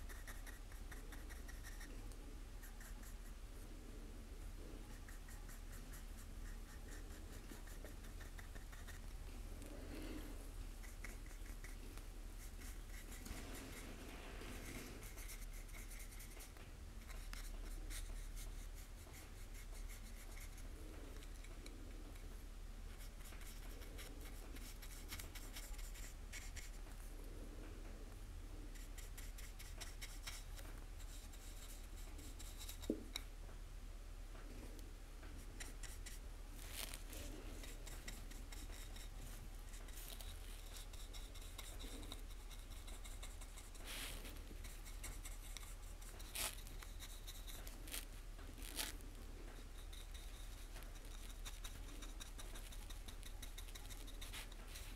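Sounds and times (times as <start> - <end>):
paintbrush rubbing on plastic: 0.0 - 2.0, 4.8 - 9.2, 10.0 - 22.2, 22.9 - 27.0, 28.7 - 33.1, 35.4 - 54.9
steady low hum: 0.0 - 54.9.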